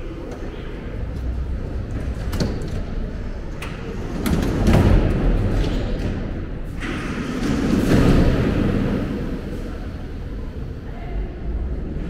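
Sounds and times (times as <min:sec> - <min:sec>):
metro train rumble: 0:00.0 - 0:12.0.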